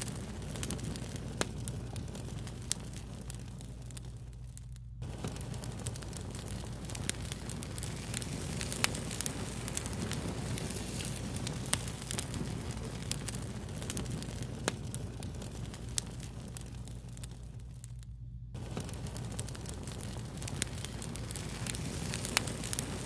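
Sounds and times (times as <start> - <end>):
fire crackling: 0.0 - 23.0
low steady hum: 0.0 - 23.0.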